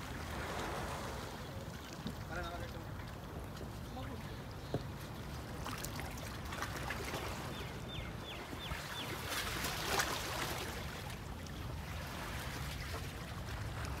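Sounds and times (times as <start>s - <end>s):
water lapping against rocks: 0.0s - 14.0s.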